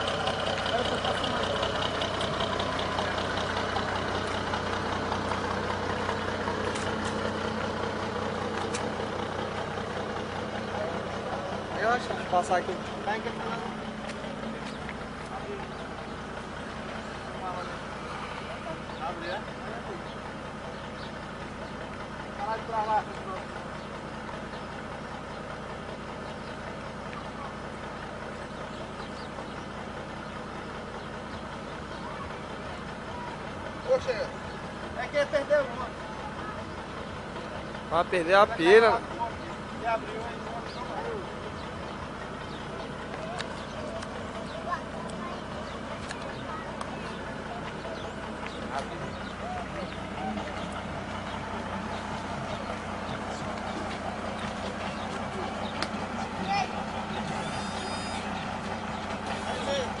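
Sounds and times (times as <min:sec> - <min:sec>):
truck engine idling: 0:00.0 - 1:00.0.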